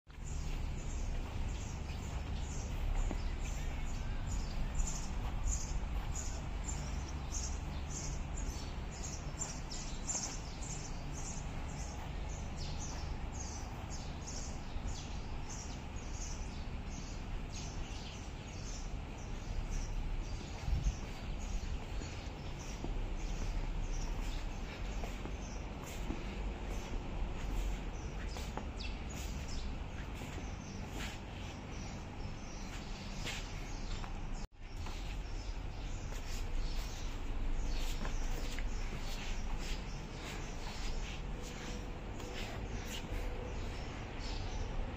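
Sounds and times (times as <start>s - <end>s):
small birds chirping: 0.1s - 44.9s.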